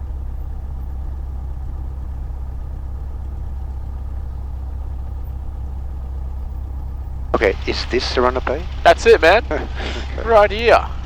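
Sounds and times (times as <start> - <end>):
light aircraft engine idling: 0.0 - 11.0.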